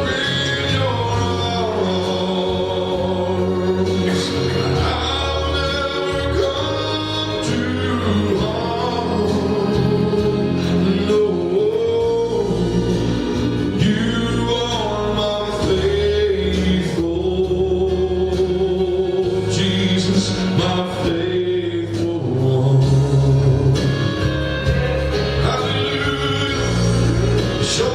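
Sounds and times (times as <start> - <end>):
gospel singing voices: 0.0 - 27.9
instrumental accompaniment: 0.0 - 27.9.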